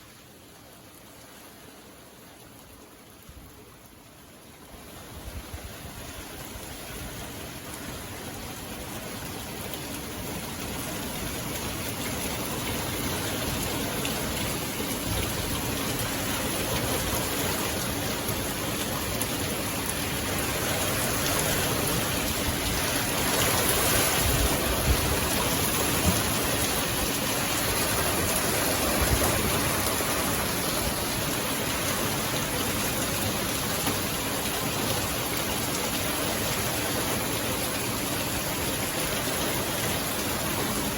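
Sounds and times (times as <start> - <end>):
rain hissing on surfaces: 0.0 - 40.9.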